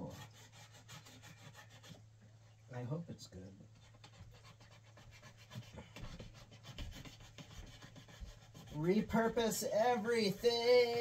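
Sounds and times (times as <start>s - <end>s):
cardboard scratching and rubbing: 0.0s - 2.0s, 3.8s - 11.0s.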